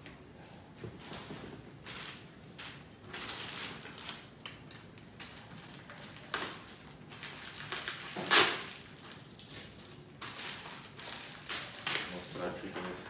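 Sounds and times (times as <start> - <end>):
plastic bag crinkling: 1.8 - 13.0.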